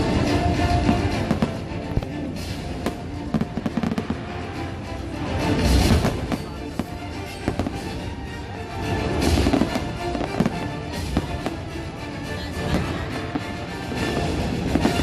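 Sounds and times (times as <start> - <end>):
fireworks bursting and crackling: 0.0 - 15.0
music over loudspeakers: 0.0 - 15.0.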